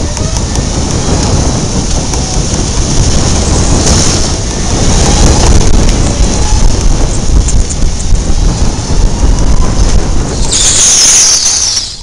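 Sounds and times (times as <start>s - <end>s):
go-kart rumble and vibration: 0.0s - 10.6s
hiss: 0.0s - 12.0s.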